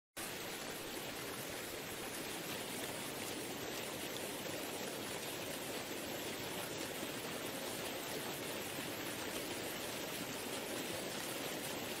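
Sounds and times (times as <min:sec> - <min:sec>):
waterfall and river rapids: 0:00.2 - 0:12.0.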